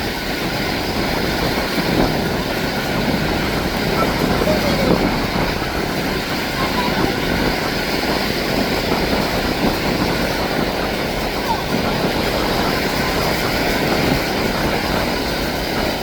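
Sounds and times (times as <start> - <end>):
turboprop aircraft engines droning: 0.0 - 16.0.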